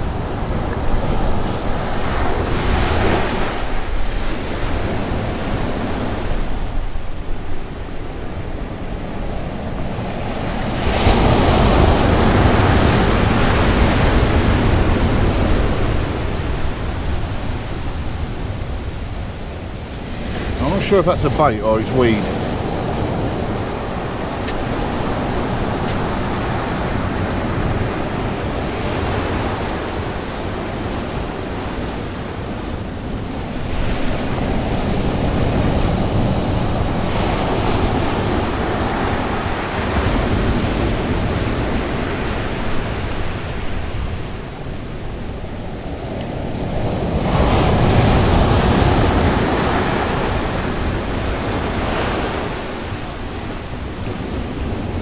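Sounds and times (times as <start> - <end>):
surf breaking on beach: 0.0 - 55.0.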